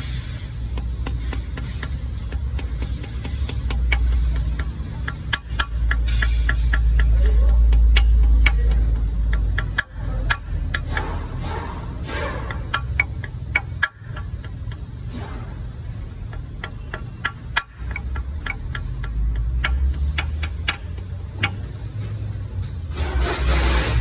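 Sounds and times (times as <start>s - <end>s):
steady low hum: 0.0s - 24.0s
socket ratchet clicking: 0.6s - 11.4s, 12.4s - 15.0s, 15.9s - 22.8s.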